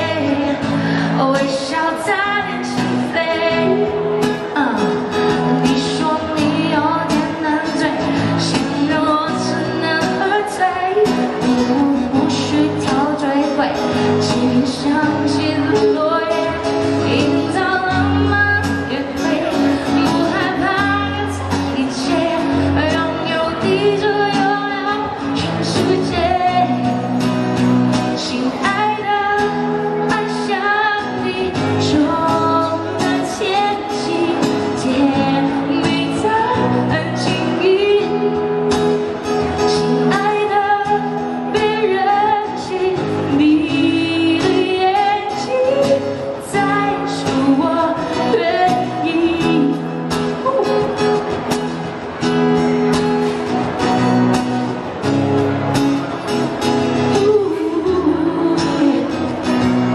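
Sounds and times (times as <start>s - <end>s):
woman singing into a microphone: 0.0s - 51.3s, 56.8s - 59.9s.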